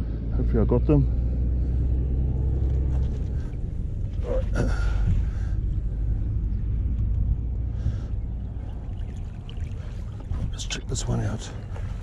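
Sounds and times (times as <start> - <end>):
wind rumble on microphone: 1.2 - 12.0.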